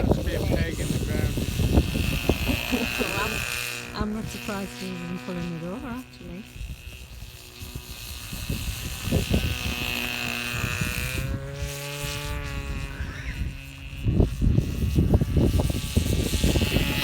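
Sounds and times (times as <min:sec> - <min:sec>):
lawnmower engine buzzing: 0:00.0 - 0:17.0.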